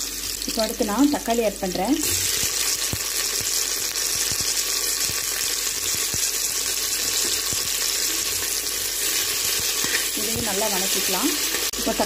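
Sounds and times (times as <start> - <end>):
onions frying in hot oil: 0.0 - 12.0.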